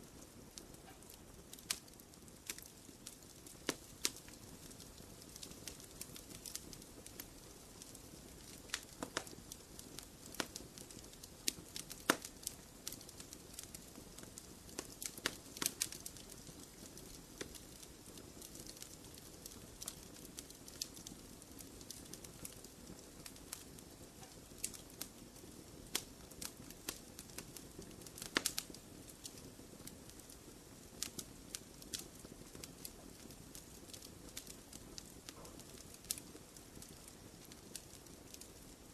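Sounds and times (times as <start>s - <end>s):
fire crackling and popping: 0.0s - 38.9s
soft hiss of flames: 0.0s - 38.9s.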